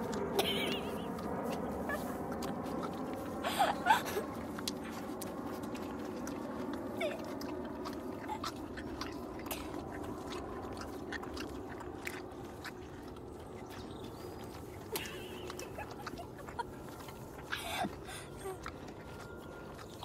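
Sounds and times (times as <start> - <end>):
pony licking and chewing: 0.0 - 20.0.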